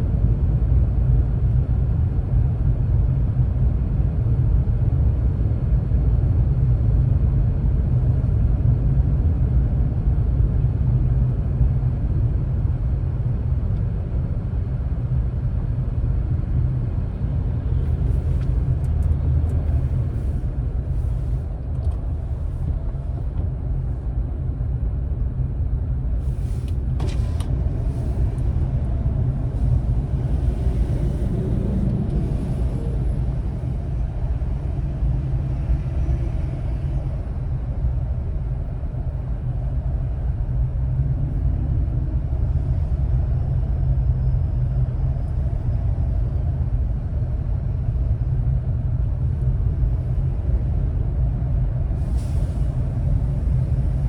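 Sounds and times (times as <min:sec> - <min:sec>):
car driving in traffic: 0:00.0 - 0:54.0.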